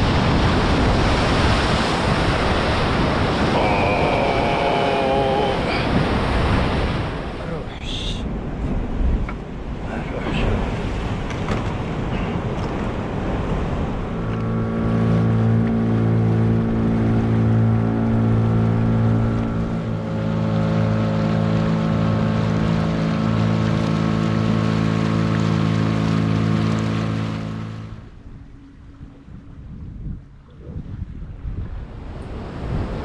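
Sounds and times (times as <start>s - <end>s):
engine drone: 0.0s - 8.1s, 12.0s - 30.6s
wind and water rushing: 0.0s - 33.0s.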